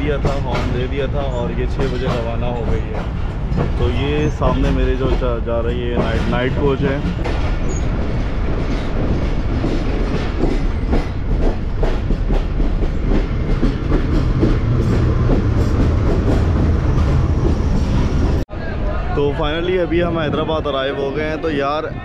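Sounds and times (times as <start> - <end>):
train wheels clattering over rail joints: 0.0 - 18.4
locomotive passing: 0.0 - 21.5
train running noise: 0.0 - 22.0.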